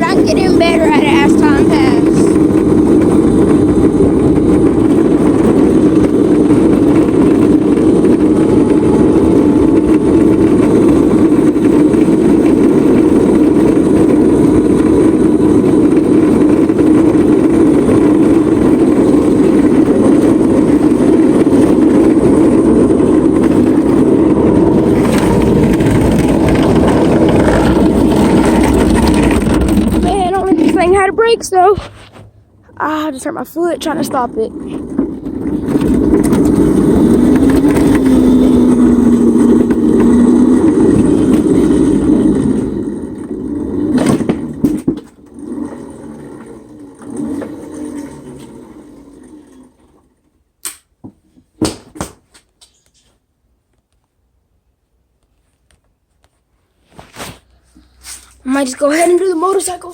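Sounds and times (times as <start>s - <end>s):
cart motor drone: 0.0s - 32.8s, 33.9s - 50.4s
wind noise on microphone: 0.0s - 49.9s
rough rumble: 0.0s - 50.5s, 56.8s - 59.9s.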